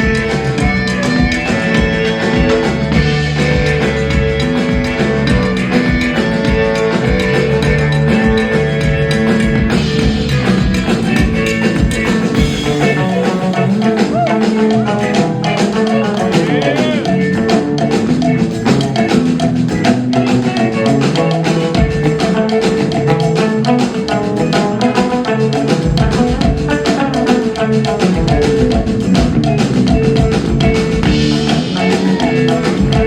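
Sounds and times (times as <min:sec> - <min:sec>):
live band music: 0:00.0 - 0:33.0.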